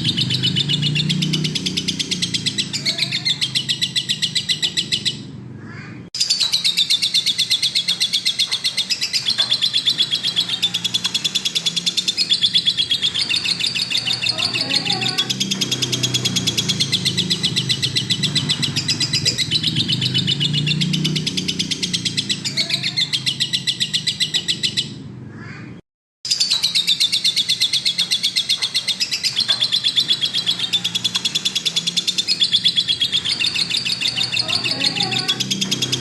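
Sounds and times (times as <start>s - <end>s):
lovebird chirping rapidly: 0.0s - 5.3s, 6.2s - 25.0s, 26.3s - 36.0s.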